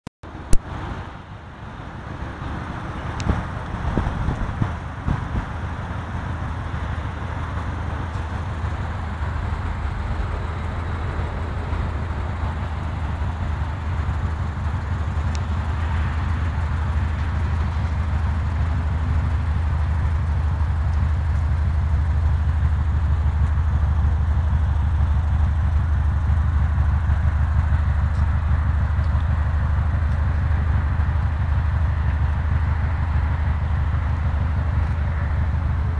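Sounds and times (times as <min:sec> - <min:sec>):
car engine idling: 0:00.3 - 0:35.9.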